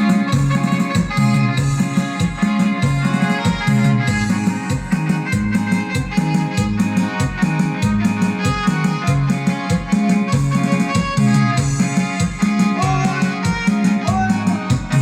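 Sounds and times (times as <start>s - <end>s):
band playing dance music: 0.0s - 15.0s.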